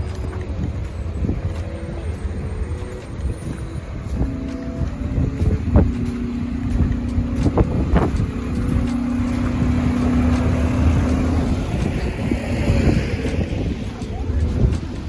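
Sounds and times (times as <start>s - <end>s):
heavy diesel truck engine rumbling: 0.0s - 15.0s
wind on microphone: 0.0s - 15.0s.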